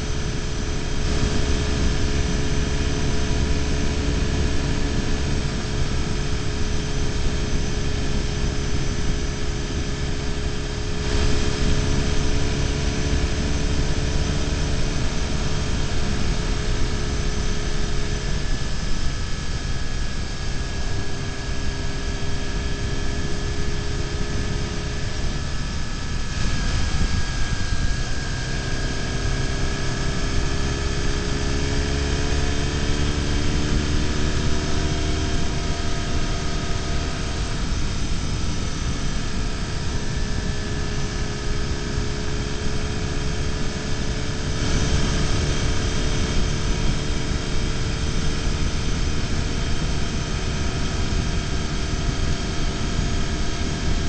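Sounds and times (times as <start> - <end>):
motorcycle engine running: 0.0 - 54.0
wind rushing on microphone: 0.0 - 54.0.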